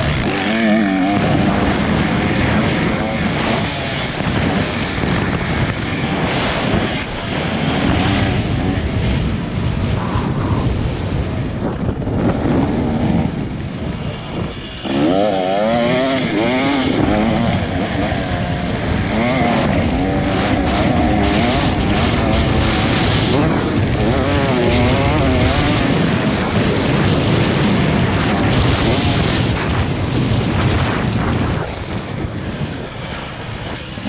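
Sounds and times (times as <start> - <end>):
dirt bike engine revving: 0.0 - 34.0
wind rushing: 0.0 - 34.0.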